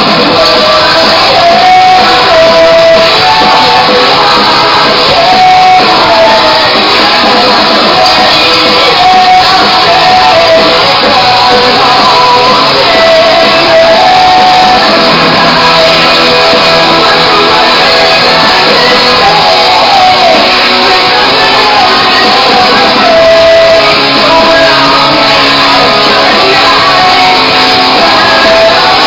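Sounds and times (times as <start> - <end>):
rock music with shouted vocals: 0.0 - 29.0.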